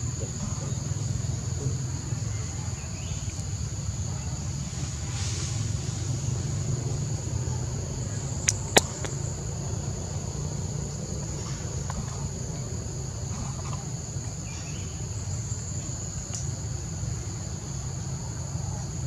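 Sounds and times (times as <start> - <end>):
insects droning: 0.0 - 19.0
low steady rumble: 0.0 - 19.0.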